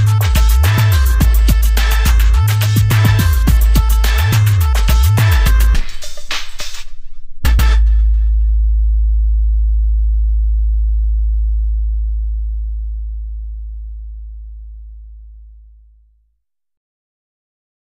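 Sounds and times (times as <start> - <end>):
deep sub-bass tone: 0.0 - 5.9, 7.4 - 16.0.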